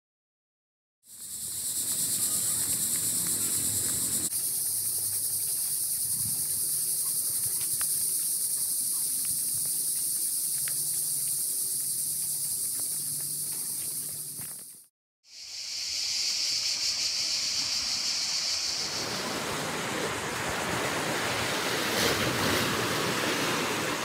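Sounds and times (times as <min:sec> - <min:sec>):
cicadas buzzing: 0:01.1 - 0:24.0.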